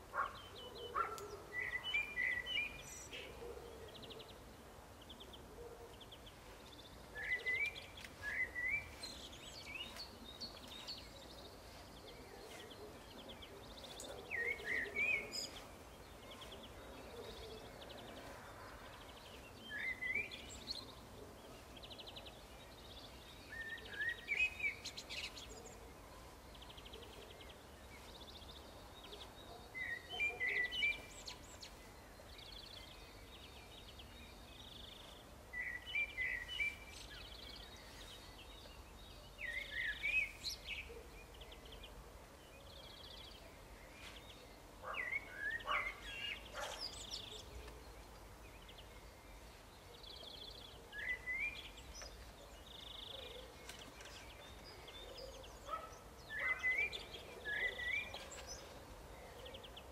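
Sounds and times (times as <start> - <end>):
faint background noise: 0.0 - 59.9
songbird chirping: 0.0 - 59.9.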